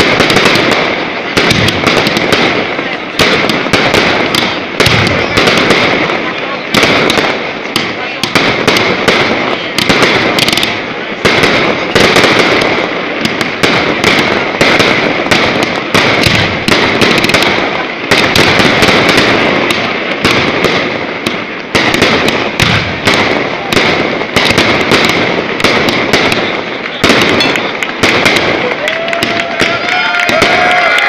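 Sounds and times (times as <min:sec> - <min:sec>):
fireworks banging and crackling: 0:00.0 - 0:31.0.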